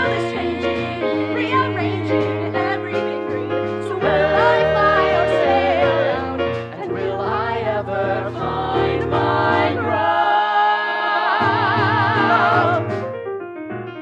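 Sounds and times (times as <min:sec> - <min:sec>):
ensemble singing in harmony: 0:00.0 - 0:13.0
instrumental accompaniment: 0:00.0 - 0:14.0.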